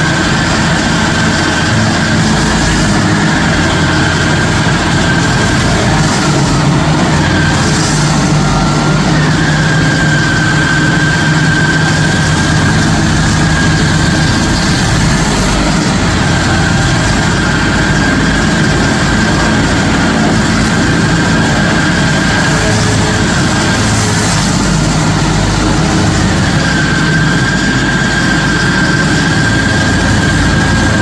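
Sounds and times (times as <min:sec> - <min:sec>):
stump grinder engine droning: 0:00.0 - 0:31.0
thin high whine: 0:00.0 - 0:31.0.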